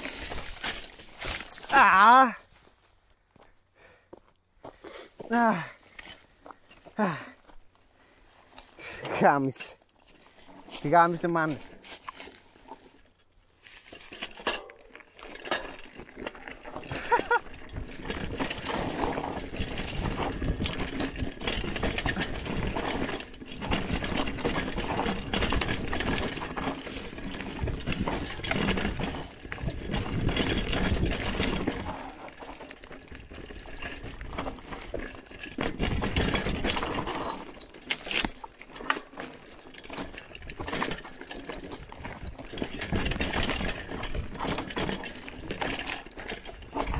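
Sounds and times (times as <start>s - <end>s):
bike chain and frame rattling: 0.0s - 2.4s, 8.6s - 46.9s
bike tyres rolling over dirt: 0.0s - 46.9s.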